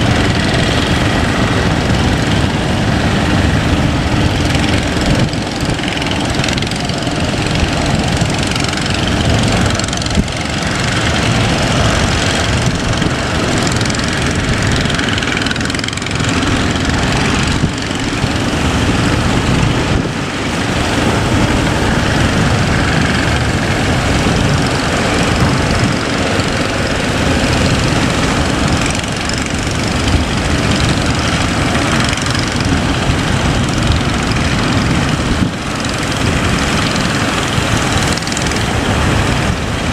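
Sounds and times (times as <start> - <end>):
boat engine running: 0.0 - 39.9
rush of wind and water: 0.0 - 39.9.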